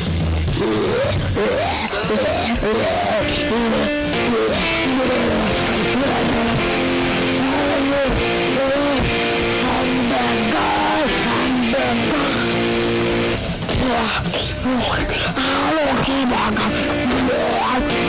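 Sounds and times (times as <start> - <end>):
loud music with gliding notes: 2.0 - 18.0.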